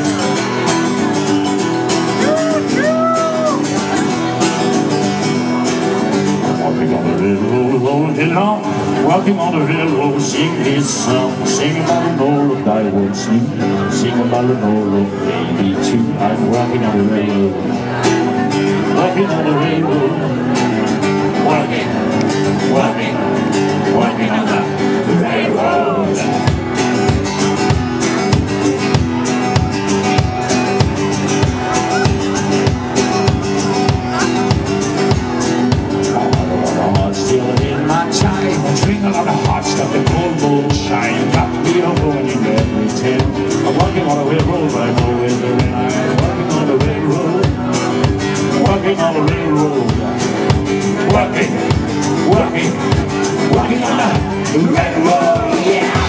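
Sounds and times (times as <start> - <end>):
country rock band playing: 0.0 - 56.0
electric guitar: 0.0 - 56.0
strummed acoustic guitar: 0.0 - 56.0
plucked upright bass: 3.8 - 56.0.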